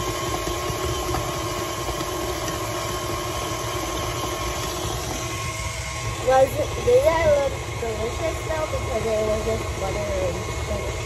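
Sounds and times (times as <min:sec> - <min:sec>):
electric mixer motor whine: 0:00.0 - 0:11.0.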